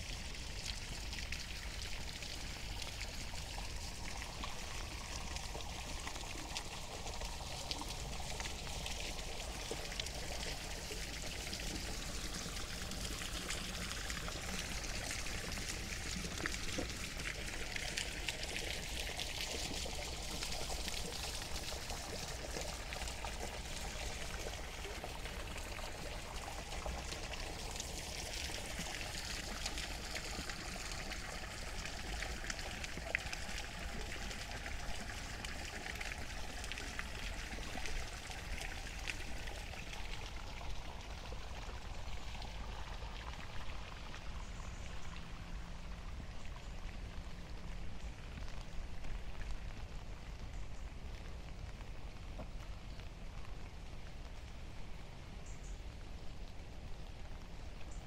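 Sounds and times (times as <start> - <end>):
raindrops pattering: 0.0 - 58.0
steady rain: 0.0 - 58.0.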